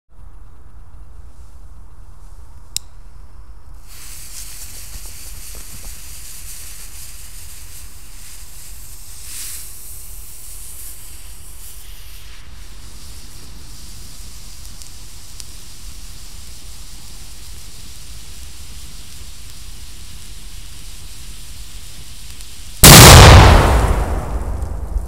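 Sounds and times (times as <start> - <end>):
firecracker fuse hissing: 1.1 - 25.0.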